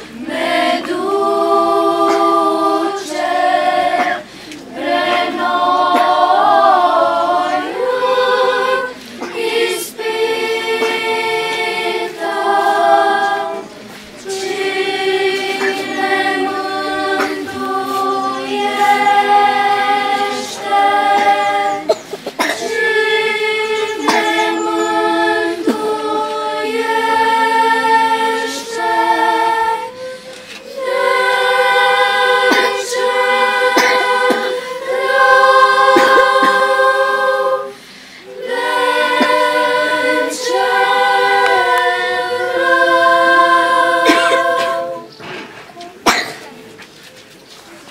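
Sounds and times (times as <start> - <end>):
girls' choir singing: 0.0 - 46.4.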